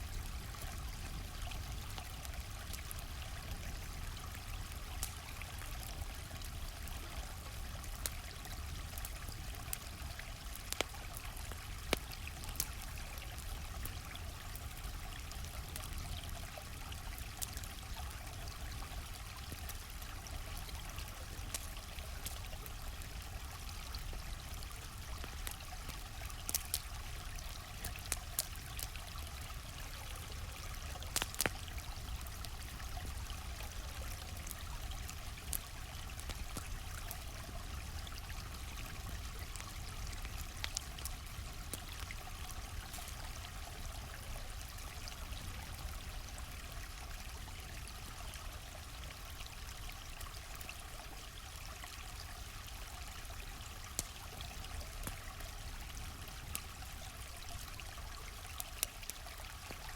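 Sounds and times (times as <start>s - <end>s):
campfire popping and crackling: 0.0s - 51.1s, 51.7s - 59.9s
stream flowing: 0.0s - 59.9s.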